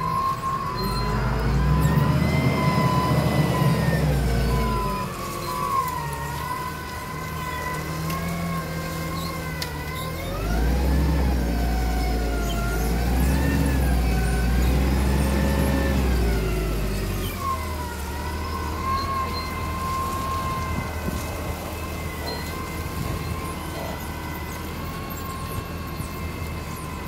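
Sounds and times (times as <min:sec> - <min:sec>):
forklift engine revving: 0:00.0 - 0:27.0
whining tone: 0:00.0 - 0:27.0.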